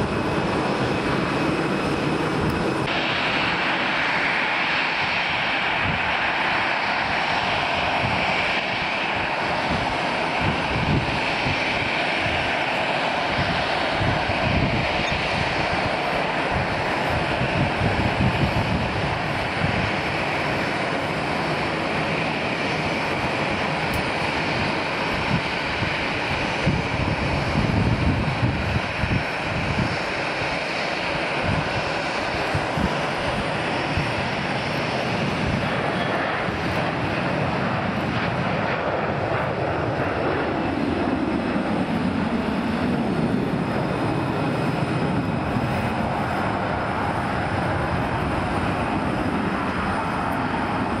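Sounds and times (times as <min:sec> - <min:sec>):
jet engine roar: 0:00.0 - 0:51.0.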